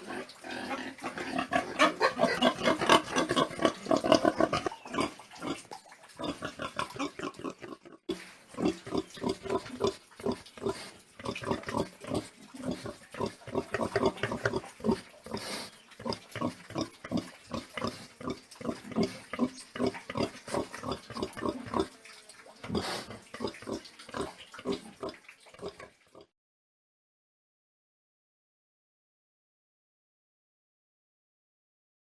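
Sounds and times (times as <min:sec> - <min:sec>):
pigs grunting: 0:00.0 - 0:22.0, 0:22.6 - 0:26.3.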